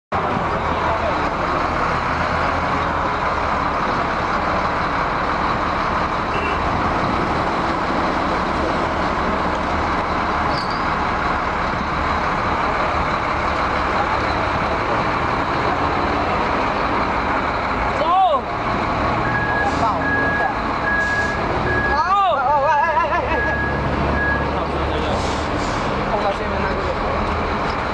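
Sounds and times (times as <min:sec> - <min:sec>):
diesel engine idling: 0:00.1 - 0:27.9.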